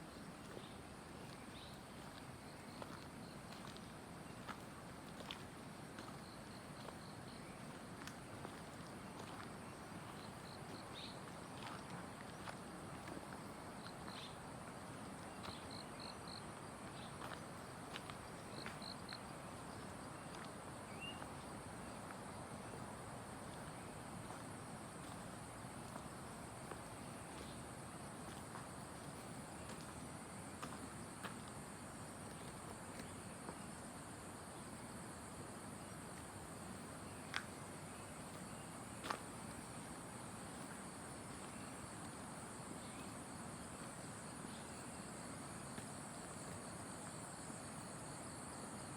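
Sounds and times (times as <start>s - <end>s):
forest insects droning: 0.0s - 48.9s.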